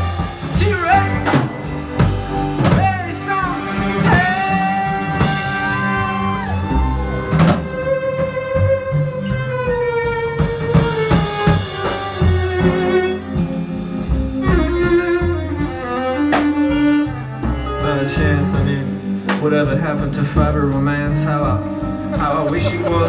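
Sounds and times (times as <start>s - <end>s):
bass notes: 0.0s - 23.0s
bowed violin notes: 0.0s - 23.0s.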